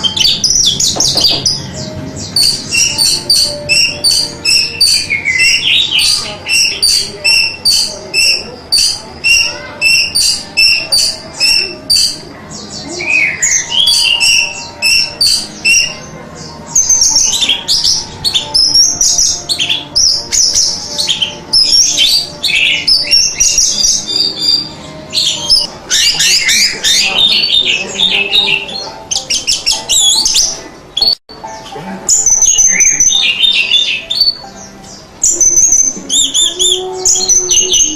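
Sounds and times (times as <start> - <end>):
thrush singing: 0.0 - 37.9.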